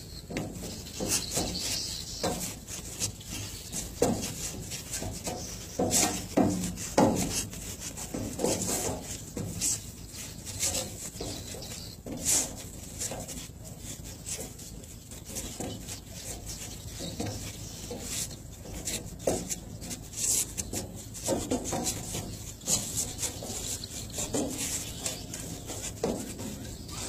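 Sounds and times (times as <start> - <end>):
shadow boxing scuffs and footwork: 0.0 - 27.0
steady low hum: 0.0 - 27.0.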